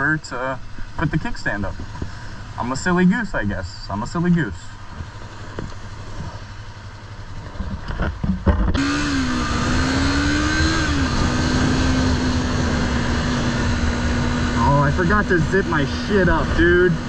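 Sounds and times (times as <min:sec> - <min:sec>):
motorcycle engine starting and idling: 0:00.7 - 0:17.0.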